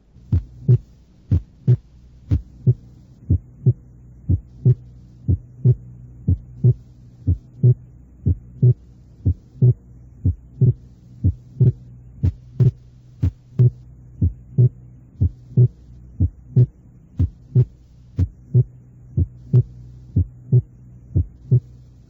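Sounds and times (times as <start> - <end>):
steady low hum: 0.0 - 22.0
heartbeat: 0.2 - 21.8.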